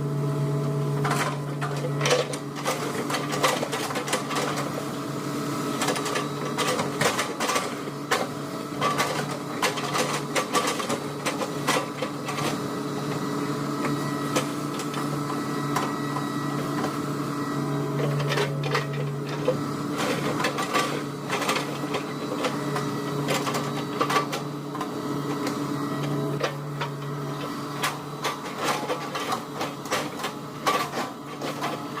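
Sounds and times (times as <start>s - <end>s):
excavator engine running: 5.8s - 32.0s.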